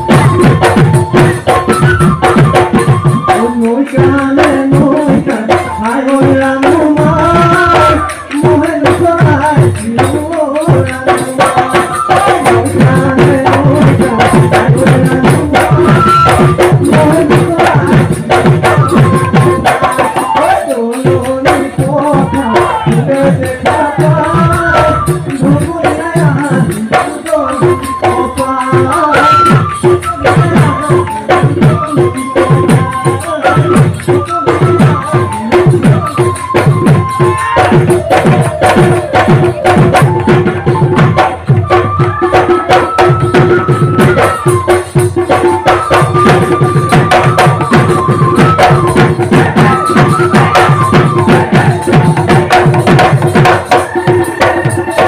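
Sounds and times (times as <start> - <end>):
drums playing fast rhythm: 0.0 - 55.0.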